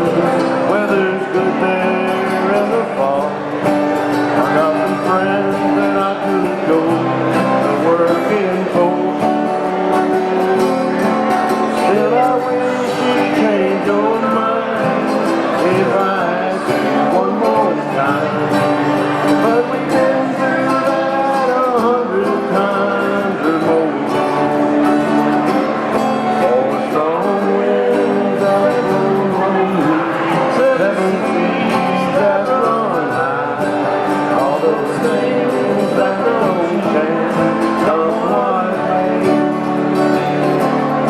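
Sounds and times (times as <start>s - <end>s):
acoustic guitars playing folk song: 0.0s - 41.0s.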